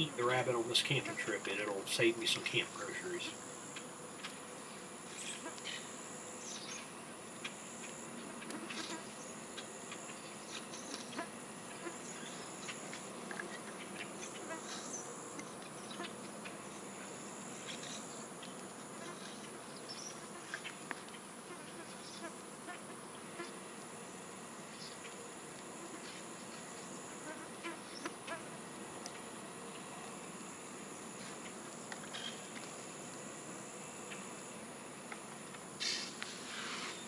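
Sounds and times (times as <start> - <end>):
insect call: 0.0 - 37.0
insects droning high-pitched: 0.0 - 37.0.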